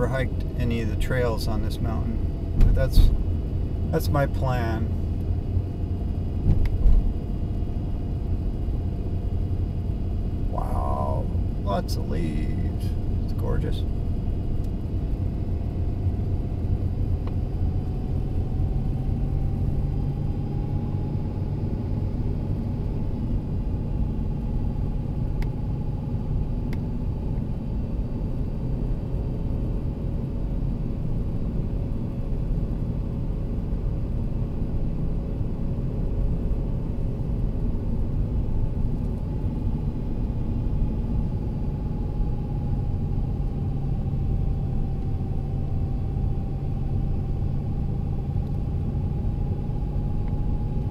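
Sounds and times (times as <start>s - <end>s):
car engine and tyres rumbling: 0.0s - 50.9s
faint whine: 0.0s - 50.9s.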